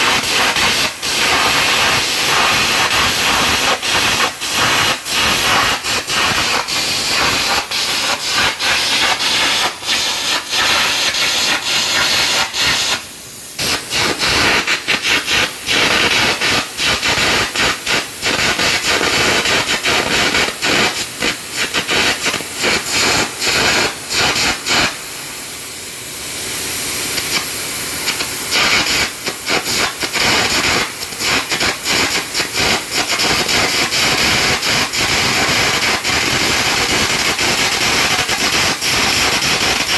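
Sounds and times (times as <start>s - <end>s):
hissing air jet: 0.0s - 39.9s.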